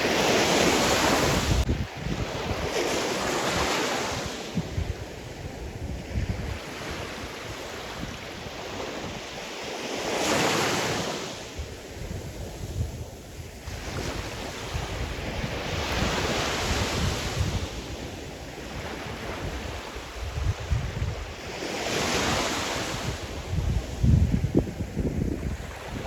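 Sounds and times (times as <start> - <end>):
waves breaking and washing in: 0.0 - 26.0
wind rumble on microphone: 0.0 - 26.0.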